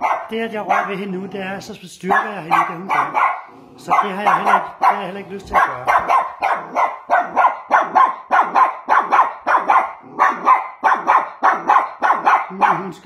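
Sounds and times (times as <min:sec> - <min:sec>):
dog barking: 0:00.0 - 0:01.4, 0:02.1 - 0:13.0.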